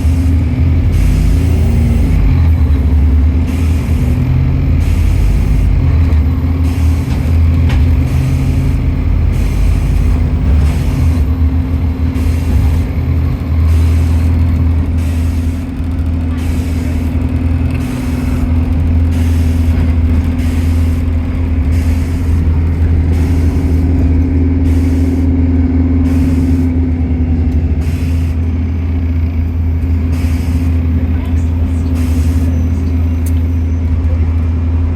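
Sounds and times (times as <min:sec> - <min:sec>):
bus engine running: 0:00.0 - 0:34.9.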